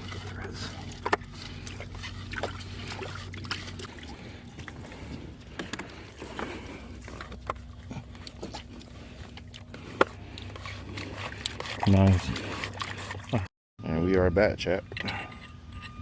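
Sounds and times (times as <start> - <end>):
water sloshing: 0.0 - 13.5
low steady hum: 0.0 - 16.0.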